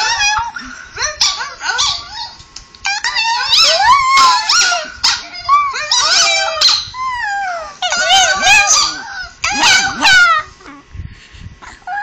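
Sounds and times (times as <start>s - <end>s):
dog whining and howling: 0.0s - 10.8s, 11.7s - 12.0s.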